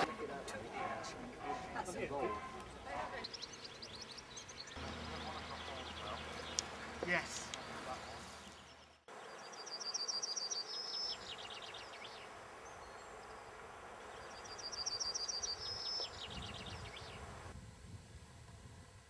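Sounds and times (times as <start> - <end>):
songbird singing: 0.0 - 17.5
steady outdoor hiss: 0.0 - 19.0.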